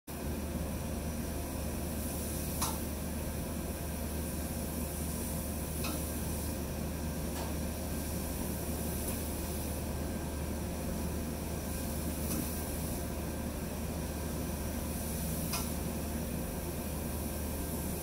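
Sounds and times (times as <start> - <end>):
laser cutter hum and hiss: 0.1 - 18.0.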